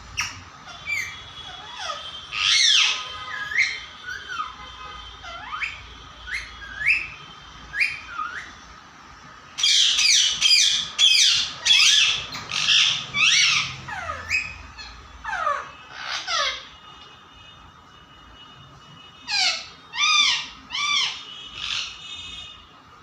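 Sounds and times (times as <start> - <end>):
parrot squawking and screeching: 0.0 - 8.6, 9.6 - 16.8, 19.2 - 22.2.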